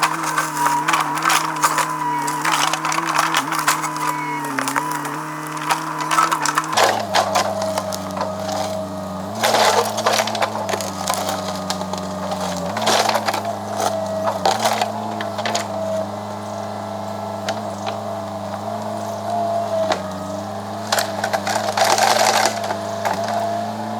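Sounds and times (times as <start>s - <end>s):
wood cracking and splintering: 0.0s - 23.9s.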